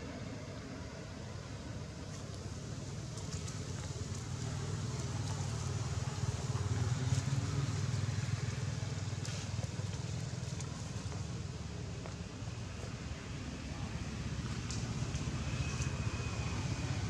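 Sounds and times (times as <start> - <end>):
motor vehicle engine rumble: 0.0 - 17.0.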